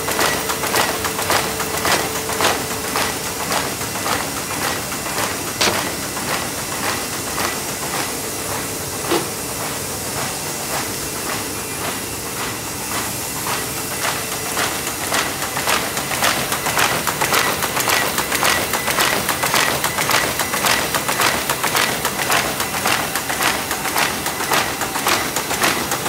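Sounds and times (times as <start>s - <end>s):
paper machines hissing and clattering: 0.0s - 26.0s
regular ticking of sheets feeding: 0.0s - 26.0s.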